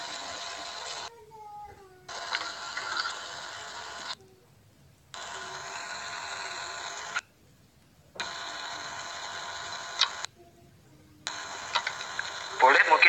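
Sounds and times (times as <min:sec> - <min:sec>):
microphone hiss and hum: 0:00.0 - 0:13.0.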